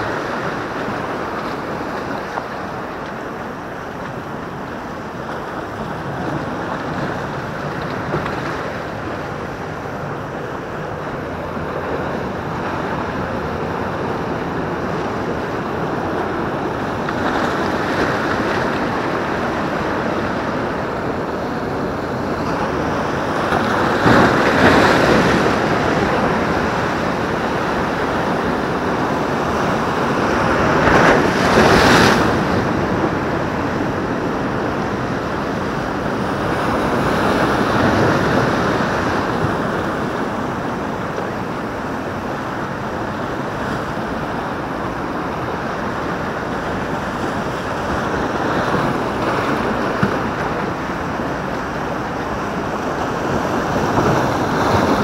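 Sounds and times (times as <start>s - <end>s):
sea waves breaking on rocks: 0.0s - 55.0s.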